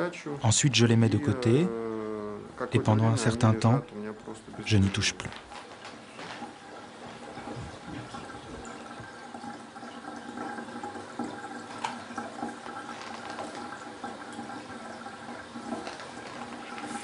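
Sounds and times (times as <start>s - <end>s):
tap water running: 0.5s - 17.0s.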